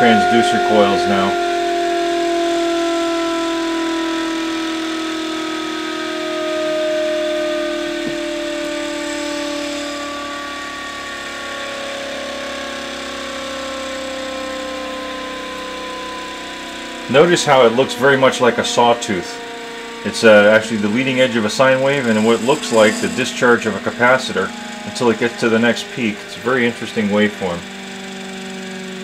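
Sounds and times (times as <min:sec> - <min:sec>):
motor whining: 0:00.0 - 0:29.0.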